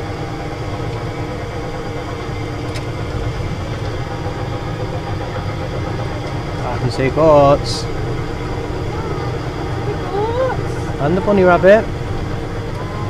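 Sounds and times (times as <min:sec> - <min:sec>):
ride car drive motor humming: 0:00.0 - 0:13.0.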